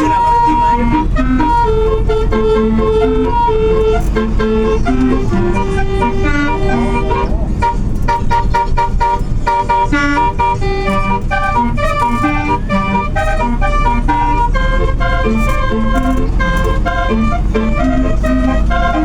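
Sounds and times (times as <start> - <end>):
bus musical horn melody: 0.0 - 19.0
low engine rumble: 0.0 - 19.0.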